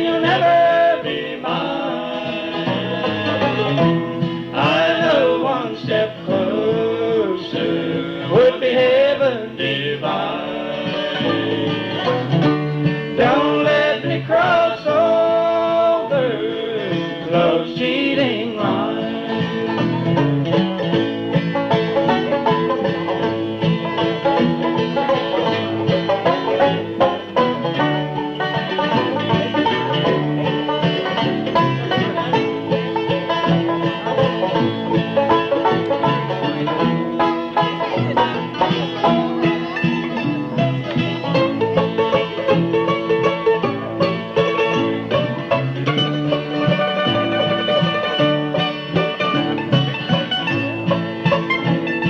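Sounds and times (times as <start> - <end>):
banjo: 0.0 - 52.0
bluegrass band playing: 0.0 - 52.0.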